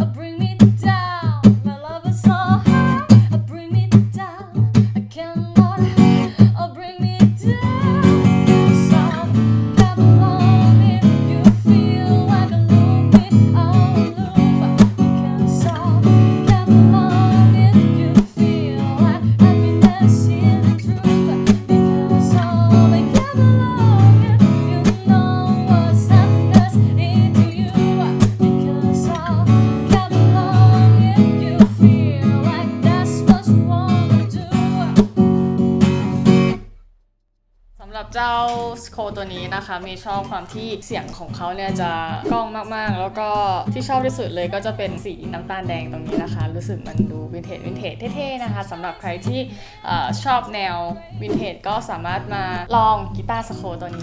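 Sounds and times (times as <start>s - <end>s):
acoustic guitar strumming: 0.0s - 36.8s, 37.8s - 54.0s.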